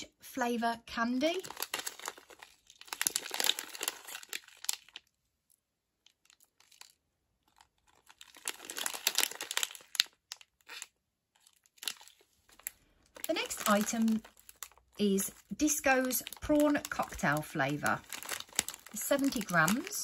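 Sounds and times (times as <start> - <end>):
plastic packet crinkling: 1.2 - 20.0.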